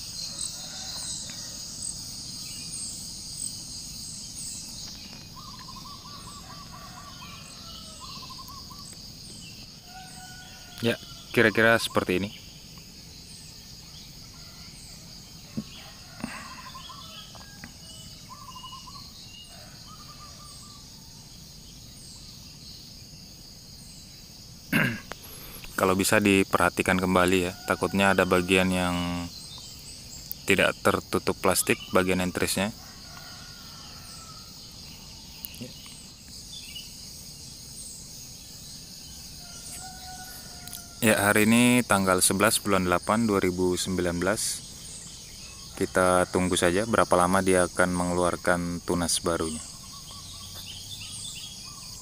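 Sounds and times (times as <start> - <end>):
birds chirping trills: 0.0 - 52.0
insects droning: 0.0 - 52.0.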